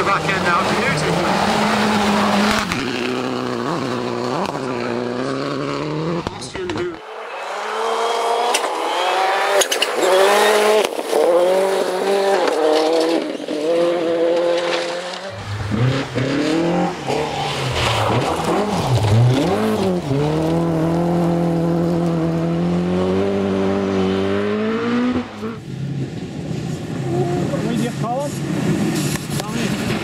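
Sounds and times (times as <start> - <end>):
rally car engine at full throttle: 0.0 - 30.0.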